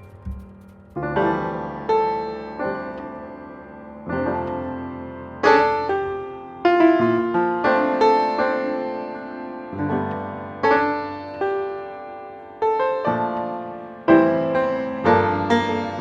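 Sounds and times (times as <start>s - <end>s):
jazz piano chords: 0.0s - 16.0s.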